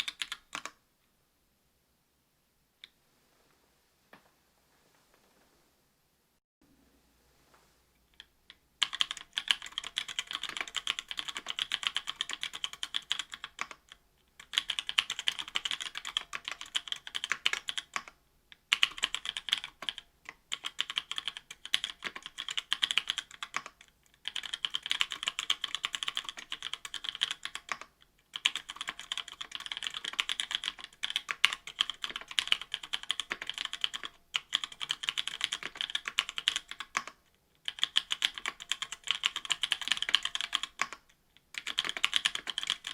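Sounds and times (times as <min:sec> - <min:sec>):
fast typing on mechanical keyboard: 0:00.0 - 0:00.8, 0:08.8 - 0:42.9.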